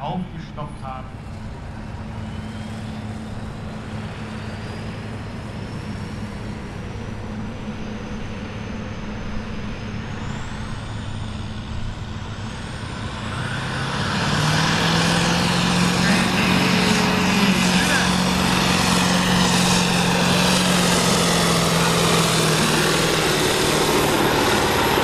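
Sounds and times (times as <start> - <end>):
tractor diesel engine: 0.0 - 25.0
turbocharger whine: 0.0 - 25.0.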